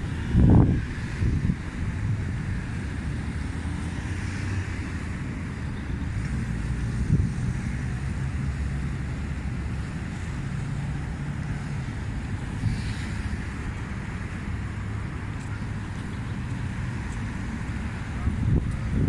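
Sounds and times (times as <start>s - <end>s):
road traffic: 0.0s - 19.0s
wind buffeting microphone: 0.0s - 19.0s.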